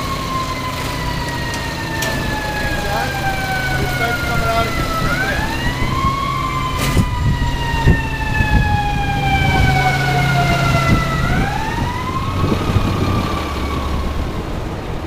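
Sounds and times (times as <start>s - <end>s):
heavy engine running: 0.0s - 15.0s
siren wailing: 0.0s - 15.0s.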